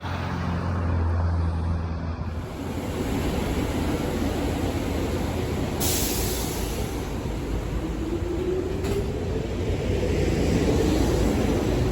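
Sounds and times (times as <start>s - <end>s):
train rumbling past: 0.0s - 11.9s.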